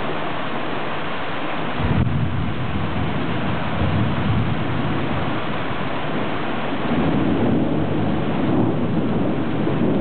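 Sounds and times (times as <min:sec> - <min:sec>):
steady rain: 0:00.0 - 0:10.0
thunder rumbling: 0:01.7 - 0:10.0.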